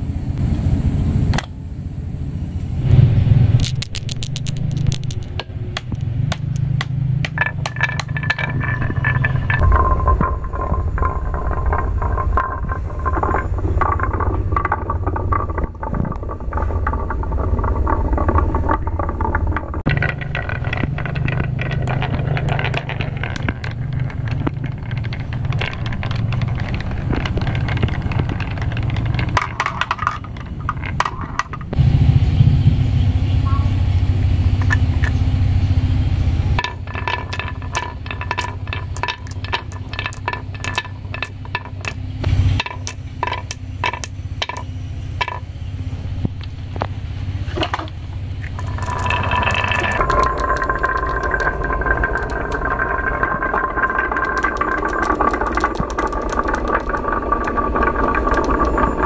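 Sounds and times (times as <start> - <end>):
marbles clacking: 3.5 - 31.8, 34.5 - 35.4, 36.4 - 59.0
marbles rolling on wooden tracks: 3.6 - 31.8, 34.5 - 35.2, 36.4 - 59.0.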